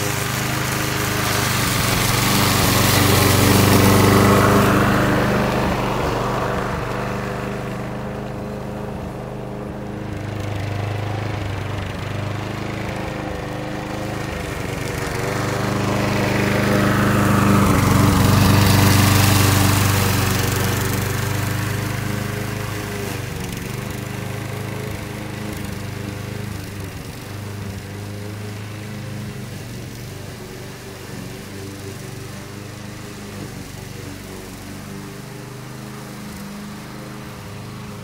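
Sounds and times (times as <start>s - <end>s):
lawn mower engine running: 0.0s - 38.0s.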